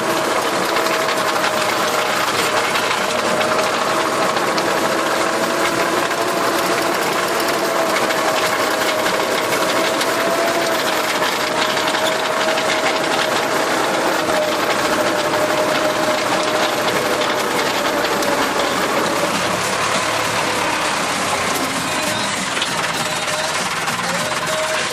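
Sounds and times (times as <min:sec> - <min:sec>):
rotary tiller whine: 0:00.0 - 0:24.9
tractor engine running: 0:00.0 - 0:24.9.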